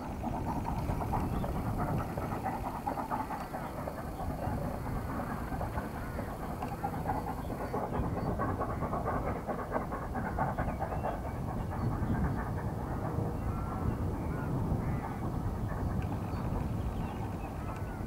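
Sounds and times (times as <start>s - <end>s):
birds calling: 0.0s - 18.0s
distant steam locomotive exhaust: 0.0s - 18.0s.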